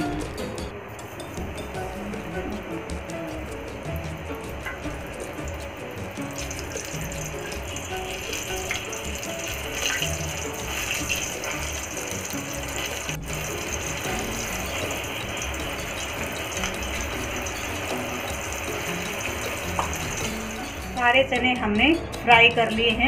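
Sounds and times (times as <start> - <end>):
deep-frying bubbling sizzle: 0.0 - 21.2
music: 0.0 - 23.0.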